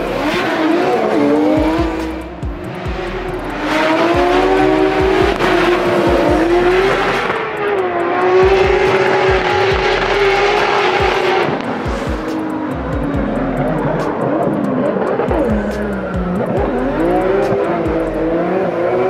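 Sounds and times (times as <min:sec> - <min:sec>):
car engines at high revs: 0:00.0 - 0:19.0.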